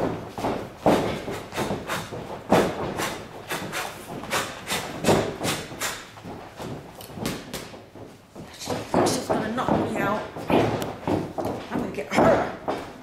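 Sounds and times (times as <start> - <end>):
footwork thumps and scuffs on canvas: 0.0 - 13.0.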